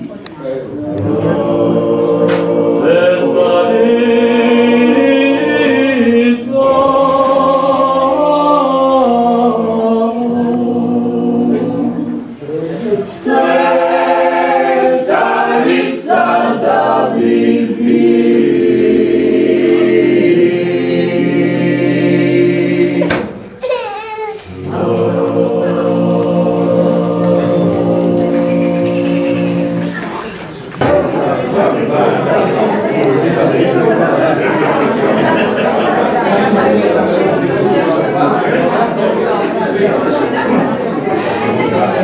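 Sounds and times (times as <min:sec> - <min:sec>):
mixed choir singing: 0:00.0 - 0:23.6, 0:24.3 - 0:42.0.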